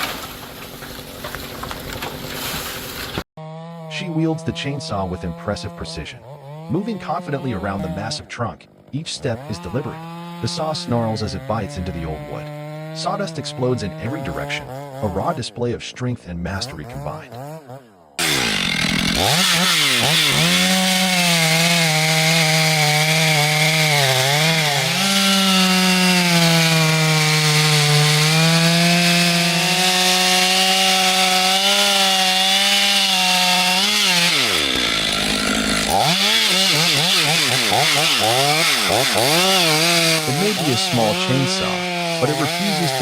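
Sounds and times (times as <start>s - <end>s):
chainsaw cutting wood: 0.0s - 15.5s, 16.5s - 43.0s.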